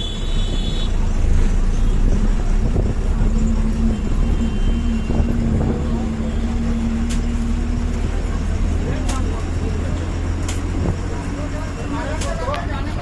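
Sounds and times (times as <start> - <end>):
bus rumbling on rough road: 0.0 - 13.0
engine hum: 0.0 - 13.0.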